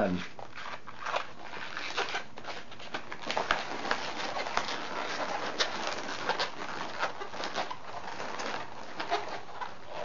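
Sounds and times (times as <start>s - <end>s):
balloons squeaking: 0.0s - 10.0s.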